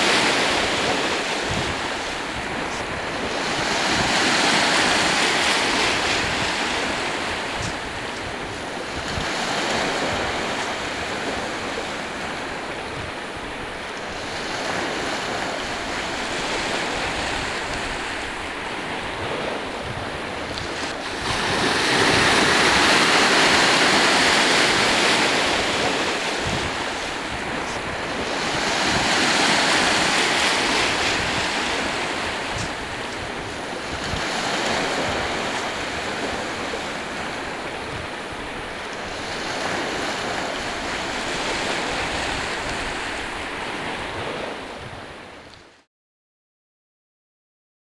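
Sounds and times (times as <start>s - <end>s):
small waves breaking on shore: 0.0s - 45.9s.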